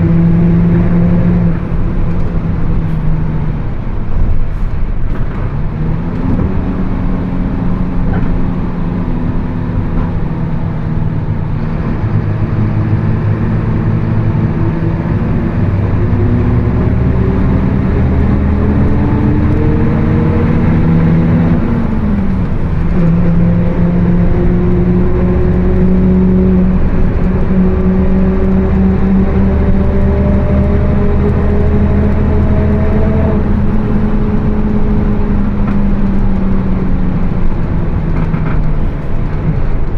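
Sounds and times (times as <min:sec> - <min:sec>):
diesel bus engine: 0:00.0 - 0:39.9.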